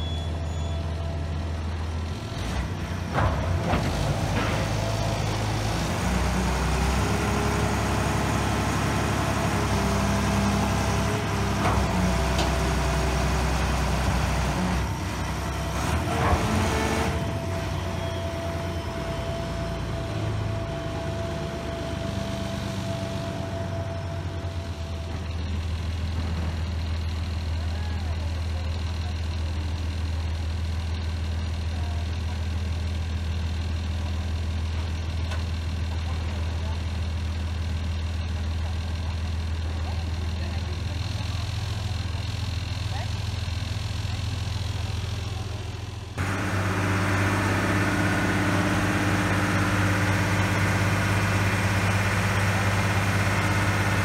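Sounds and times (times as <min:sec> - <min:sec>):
travel lift engine running: 0:00.0 - 0:54.0.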